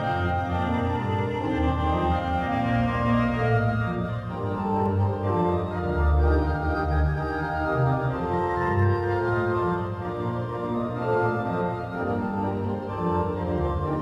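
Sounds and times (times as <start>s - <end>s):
pipe organ chords: 0.0s - 14.0s.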